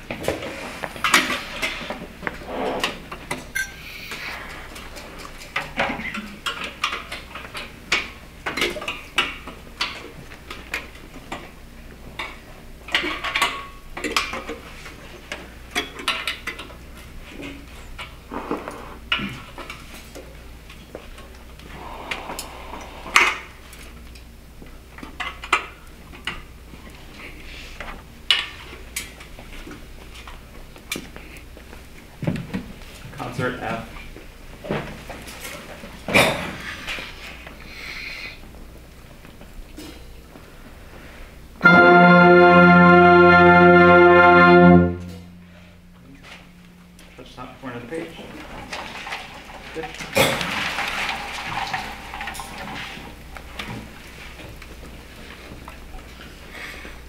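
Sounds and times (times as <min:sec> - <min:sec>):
instruments and chairs clinking: 0:00.0 - 0:37.7, 0:41.5 - 0:57.0.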